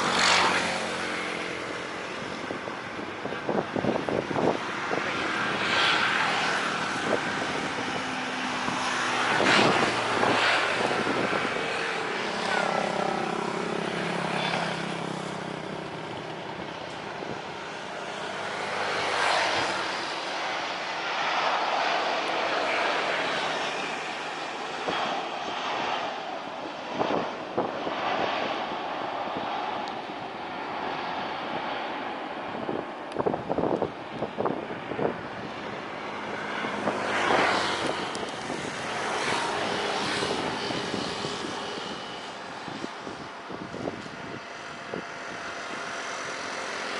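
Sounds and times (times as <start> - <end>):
jet airliner engines passing: 0.0 - 46.9.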